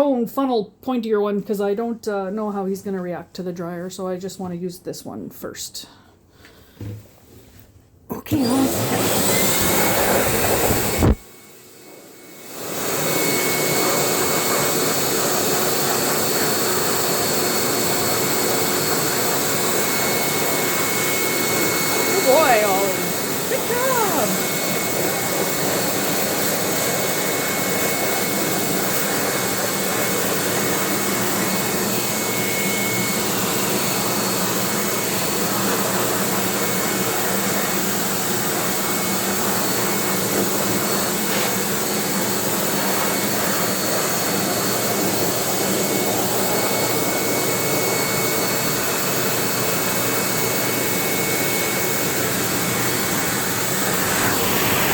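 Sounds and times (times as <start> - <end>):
blow dryer rushing air: 8.3 - 54.9.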